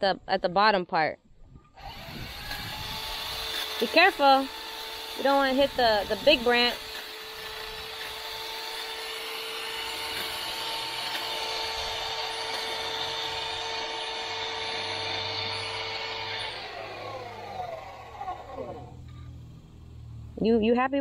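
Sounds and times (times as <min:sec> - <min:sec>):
hedge trimmer whining: 0:01.8 - 0:20.5.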